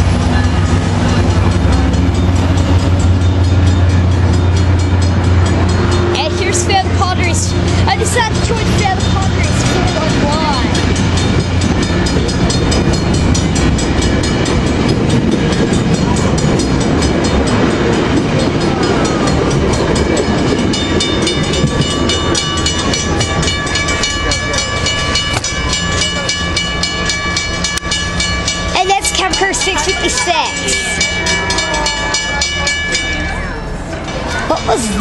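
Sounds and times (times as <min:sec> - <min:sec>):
train wheels clicking over rail joints: 0:00.0 - 0:34.7
steady high multi-tone ringing: 0:00.3 - 0:34.4.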